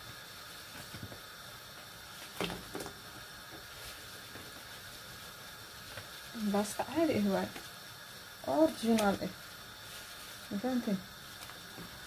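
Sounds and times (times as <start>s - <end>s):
water boiling and bubbling: 0.0s - 12.0s.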